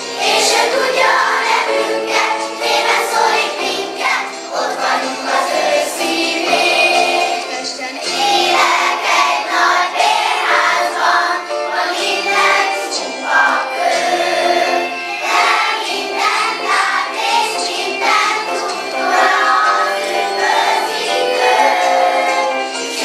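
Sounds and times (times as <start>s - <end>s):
children's choir singing: 0.0s - 23.0s.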